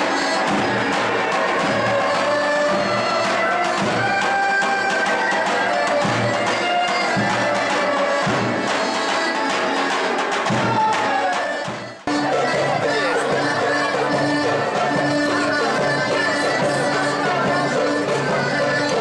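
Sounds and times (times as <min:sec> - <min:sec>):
reedy wind instrument melody: 0:00.0 - 0:19.0.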